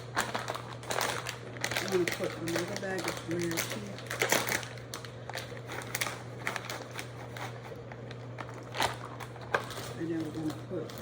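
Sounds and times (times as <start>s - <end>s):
plastic bag crinkling: 0.0s - 11.0s
steady low hum: 0.0s - 11.0s.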